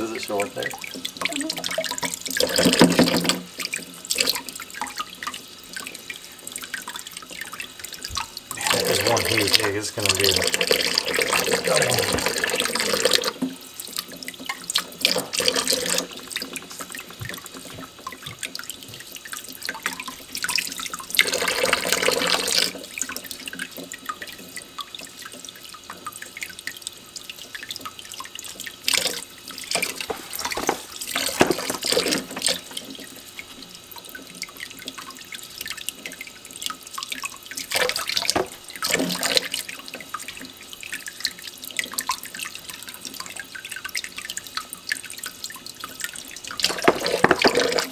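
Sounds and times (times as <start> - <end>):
tap water running into sink: 0.0 - 47.9.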